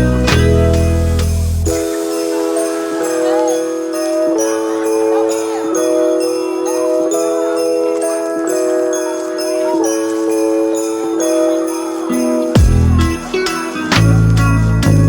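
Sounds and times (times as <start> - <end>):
held chords: 0.0 - 15.0
sleigh bells and chimes music: 0.0 - 15.0.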